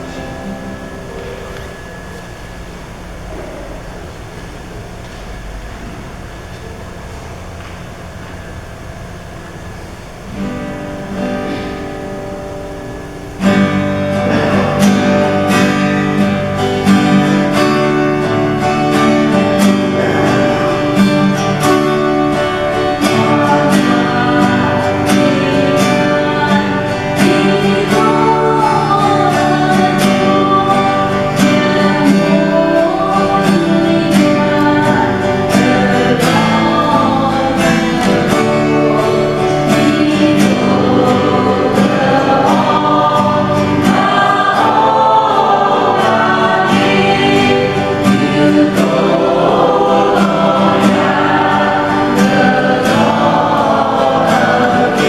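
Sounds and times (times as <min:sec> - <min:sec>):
choir singing a hymn: 0:00.0 - 0:02.4, 0:10.0 - 0:55.0
strummed acoustic guitar: 0:00.0 - 0:55.0.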